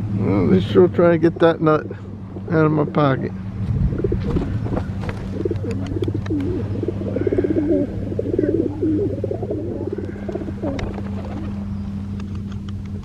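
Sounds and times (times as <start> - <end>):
steady low hum: 0.0 - 13.0
pigeons cooing: 1.2 - 12.3.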